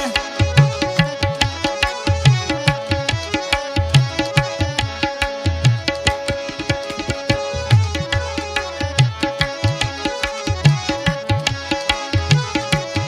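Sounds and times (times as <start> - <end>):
hand drum fast rhythm: 0.0 - 13.0.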